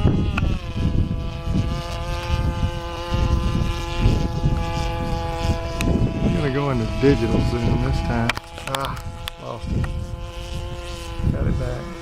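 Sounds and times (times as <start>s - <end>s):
model airplane rotary engine running: 0.0s - 12.0s
wind buffeting microphone: 0.0s - 12.0s.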